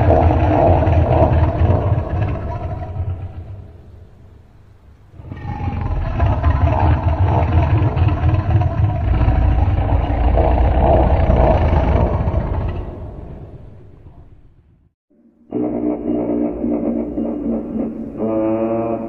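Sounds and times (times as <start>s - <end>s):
deep rumbling creature growl: 0.0s - 4.4s, 5.1s - 14.9s, 15.5s - 19.0s.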